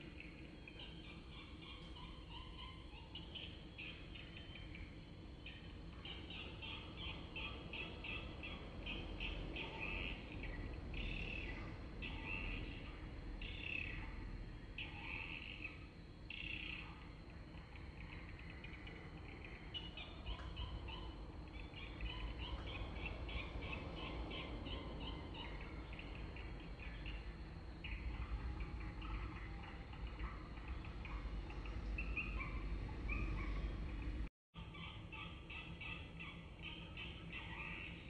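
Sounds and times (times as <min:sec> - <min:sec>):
low background rumble: 0:00.0 - 0:37.8
birds chirping and twittering: 0:00.0 - 0:38.0.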